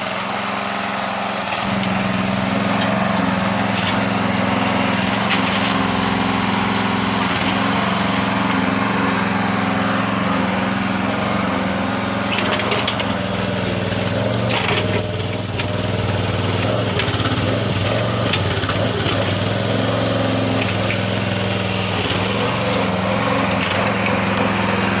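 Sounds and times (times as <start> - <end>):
small backhoe engine running: 0.0 - 25.0.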